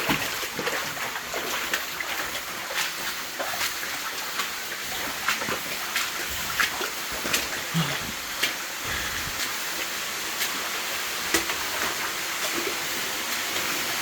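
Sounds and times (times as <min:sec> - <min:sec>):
water splashing: 0:00.0 - 0:13.0
rushing water: 0:00.0 - 0:14.0.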